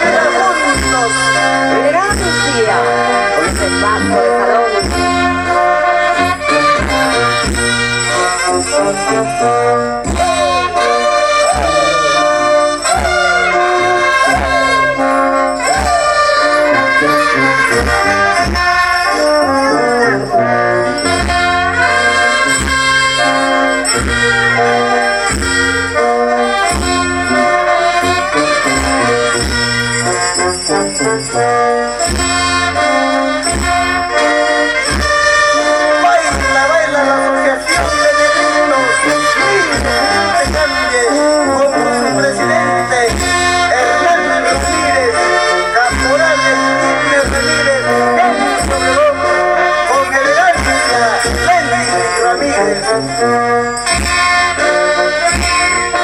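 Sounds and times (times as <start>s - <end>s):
brass band playing dance music: 0.0s - 56.0s
jingling bells: 0.0s - 56.0s.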